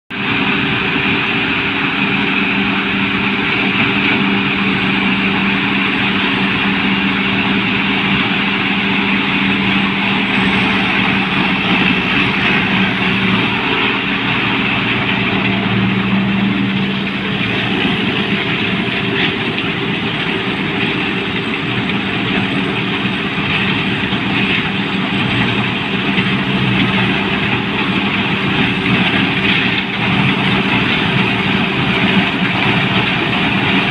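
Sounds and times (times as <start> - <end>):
combine harvester engine running: 0.1 - 33.9.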